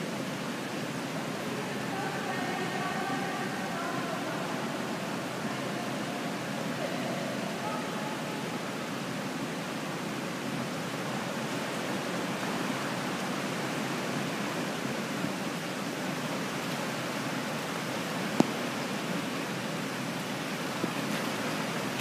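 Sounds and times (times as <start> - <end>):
swimming pool hall ambience: 0.0 - 22.0.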